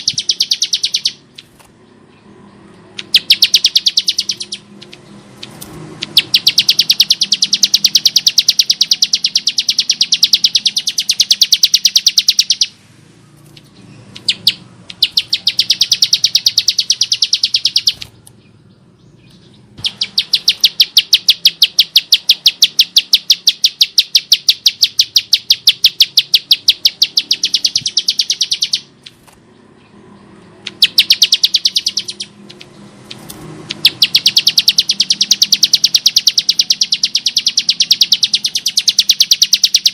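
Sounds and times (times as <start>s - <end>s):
bird singing high chipping notes: 0.0s - 39.9s.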